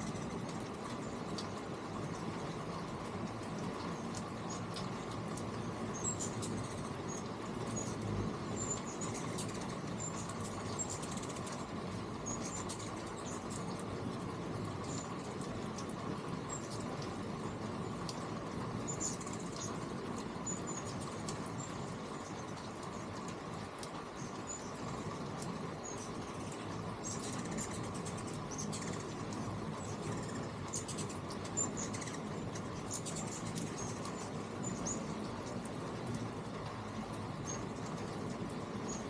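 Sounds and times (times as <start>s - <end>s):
hummingbird chip notes: 0.0s - 39.0s
steady background hiss: 0.0s - 39.0s.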